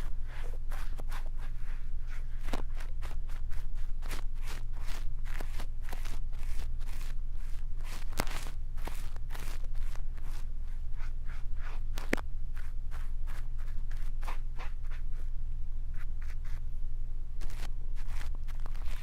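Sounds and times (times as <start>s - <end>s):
brush strokes on microphone: 0.0s - 15.3s, 17.4s - 19.0s
steady low hum: 0.0s - 19.0s.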